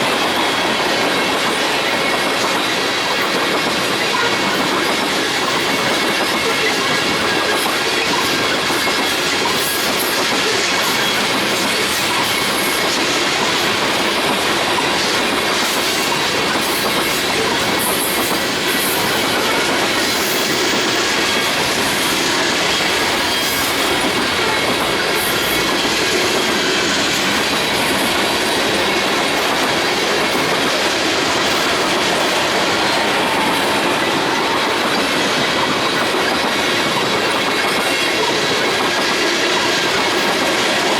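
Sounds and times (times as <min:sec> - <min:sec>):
clickety-clack over rail joints: 0:00.0 - 0:40.9
train wheels on rail: 0:00.0 - 0:40.9.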